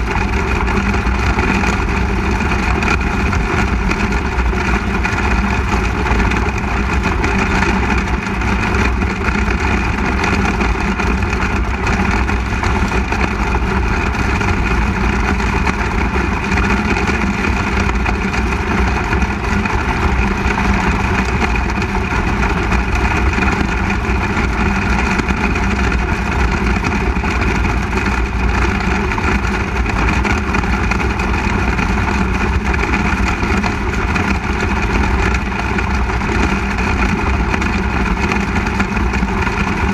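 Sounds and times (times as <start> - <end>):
other race car engines: 0.0 - 39.9
race car engine running: 0.0 - 39.9.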